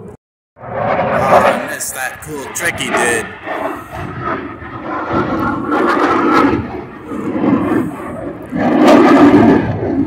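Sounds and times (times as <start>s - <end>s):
military jet engine roar: 0.0s - 10.0s.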